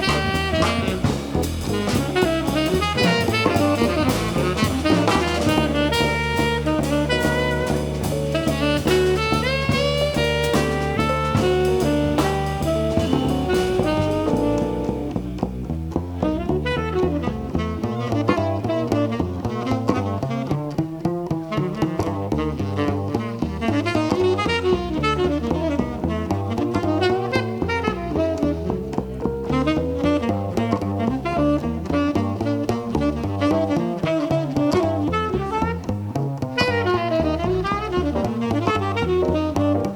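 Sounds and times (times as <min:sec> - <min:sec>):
double bass: 0:00.0 - 0:39.9
drum kit: 0:00.0 - 0:39.9
saxophone lead: 0:00.0 - 0:39.9.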